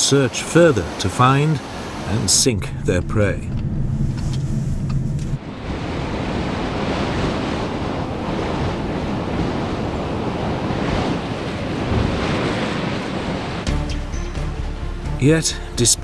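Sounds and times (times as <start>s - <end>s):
waves breaking: 0.0s - 13.6s
wind over sea: 0.0s - 13.7s.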